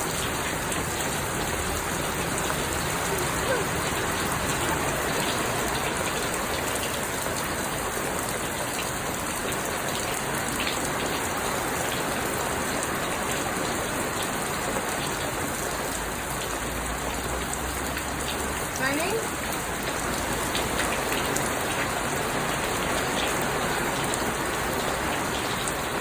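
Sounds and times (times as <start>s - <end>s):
raindrop ticks: 0.0s - 26.0s
steady rain falling: 0.0s - 26.0s.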